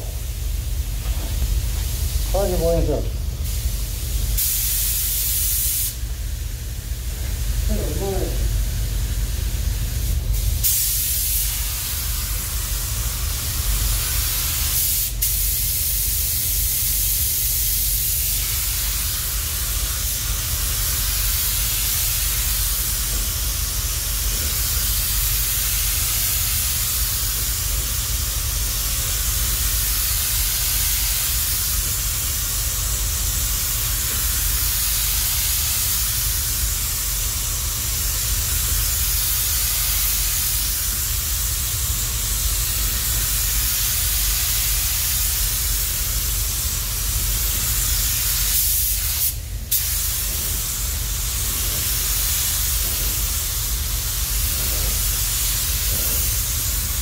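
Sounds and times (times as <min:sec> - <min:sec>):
paint spray gun hissing: 0:00.0 - 0:06.1, 0:06.8 - 0:57.0.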